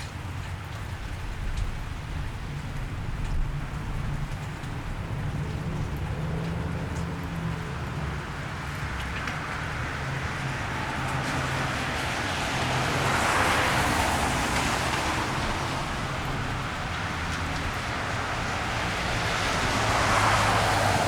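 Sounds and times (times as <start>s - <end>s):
tyres hissing on wet road: 0.0s - 21.0s.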